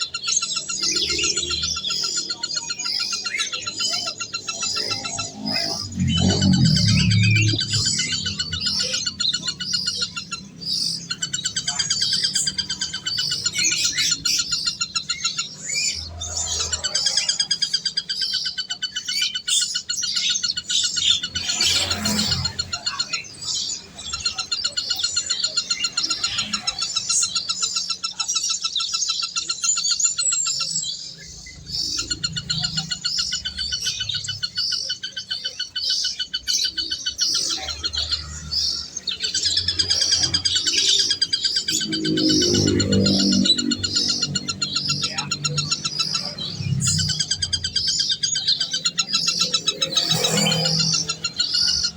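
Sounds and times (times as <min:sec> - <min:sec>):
many birds chirping: 0:00.0 - 0:51.9.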